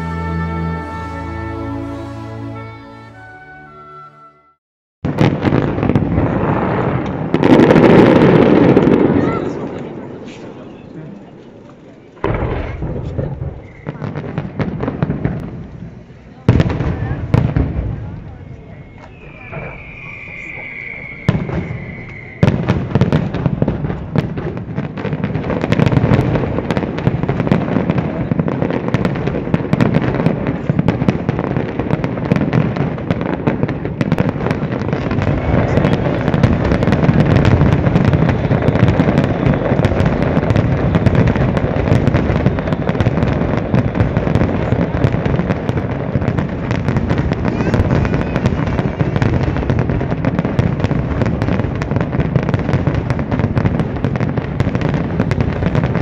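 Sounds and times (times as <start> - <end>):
fireworks crackle: 0.0 - 3.3, 5.0 - 56.0.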